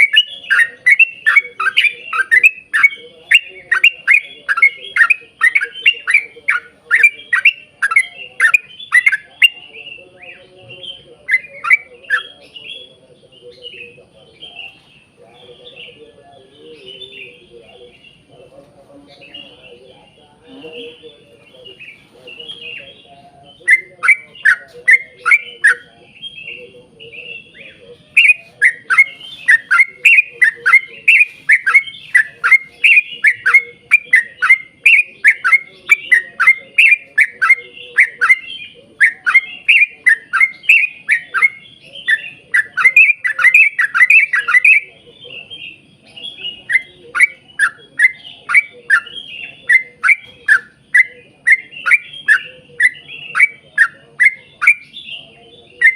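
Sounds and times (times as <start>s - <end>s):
bulbul singing sharp notes: 0.0s - 16.0s, 19.1s - 55.9s
faint twittering: 0.0s - 55.9s.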